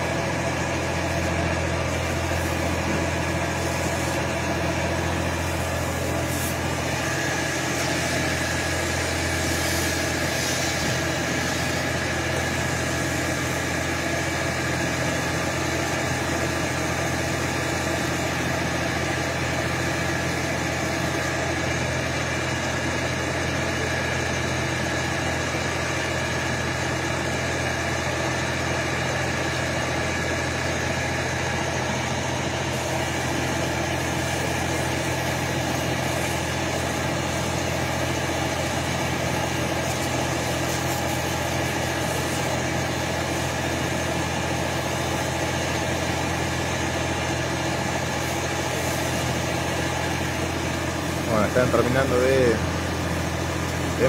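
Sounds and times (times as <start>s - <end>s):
fire engine motor idling: 0.0s - 54.0s
thin steady whine: 0.0s - 54.0s.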